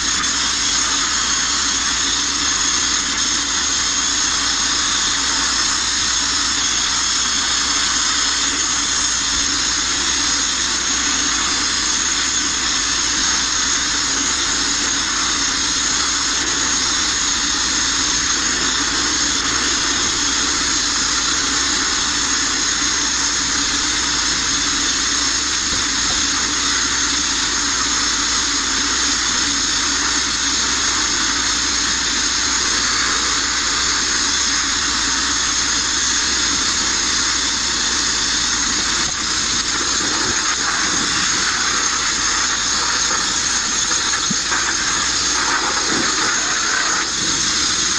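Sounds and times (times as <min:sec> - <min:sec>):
abrasive blast nozzle hissing: 0:00.0 - 0:47.9.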